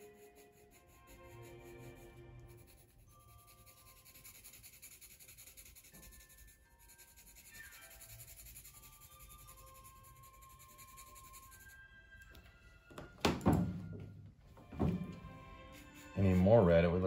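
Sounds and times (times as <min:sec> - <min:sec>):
pencil shading on paper: 0:00.0 - 0:12.0, 0:15.2 - 0:17.0.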